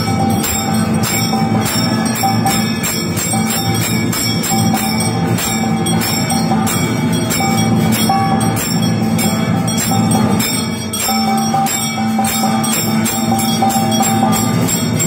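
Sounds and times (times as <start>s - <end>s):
steady musical drone: 0.0s - 15.0s
temple bells ringing rapidly: 0.0s - 15.0s.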